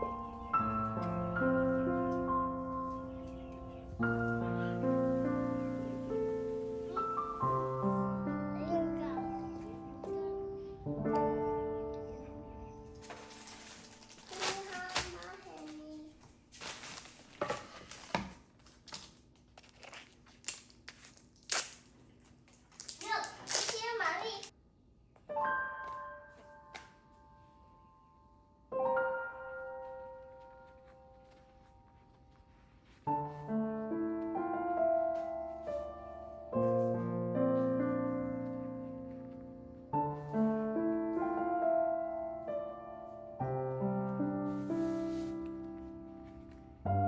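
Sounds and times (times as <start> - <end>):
calm piano music: 0.0 - 16.2, 25.1 - 47.0.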